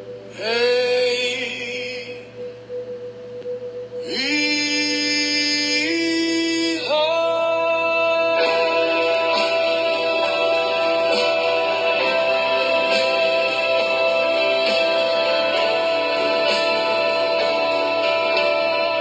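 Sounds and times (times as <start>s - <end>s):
guitar: 0.0s - 19.0s
man singing long notes: 0.3s - 2.4s, 4.0s - 19.0s.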